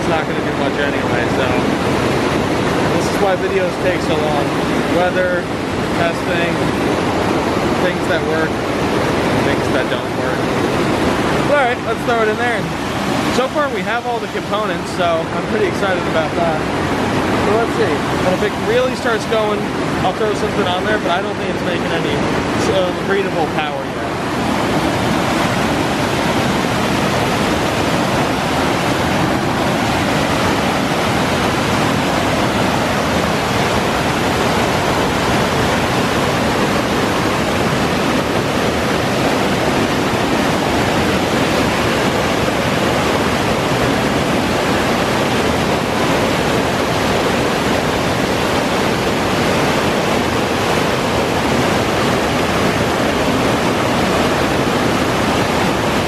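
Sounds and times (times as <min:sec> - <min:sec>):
rushing whitewater: 0:00.0 - 0:56.0.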